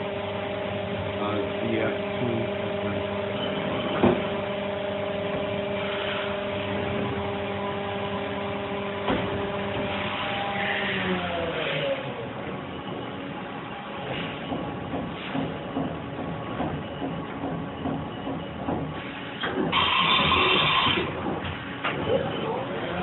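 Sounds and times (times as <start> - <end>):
machine spindle humming: 0.0 - 23.0.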